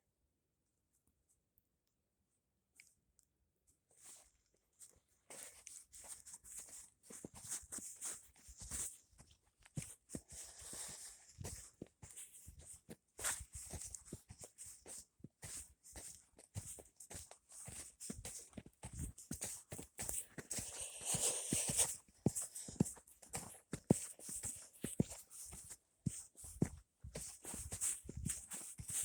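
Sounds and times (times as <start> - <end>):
footsteps crunching in snow: 5.4 - 29.0.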